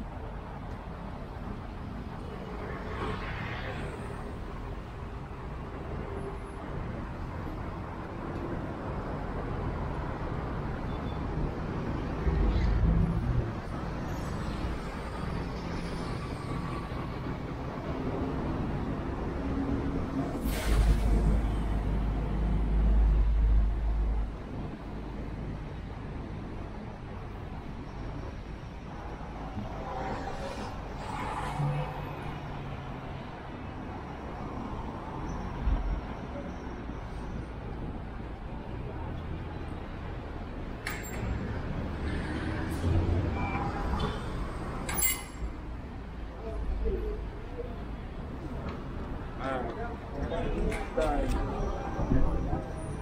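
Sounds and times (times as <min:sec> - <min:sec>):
passing traffic: 0:00.0 - 0:53.0.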